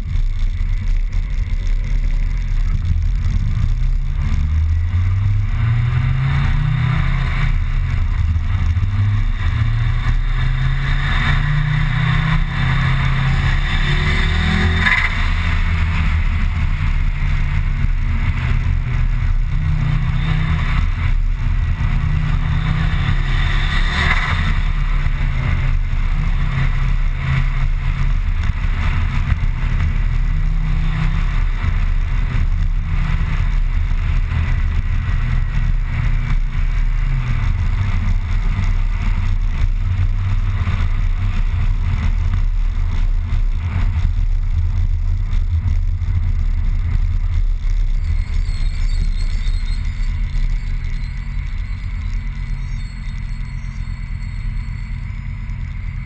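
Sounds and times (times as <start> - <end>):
car engine accelerating: 0.0 - 56.0
road rumble and tyre hiss: 0.0 - 56.0.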